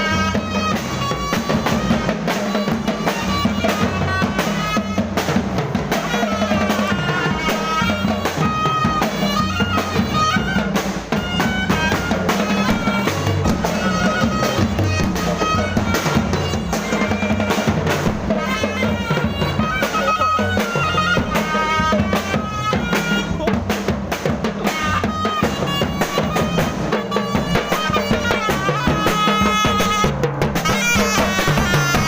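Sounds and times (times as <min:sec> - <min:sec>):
procession drums and percussion: 0:00.0 - 0:32.0
reedy bagpipe-like melody: 0:00.0 - 0:32.0.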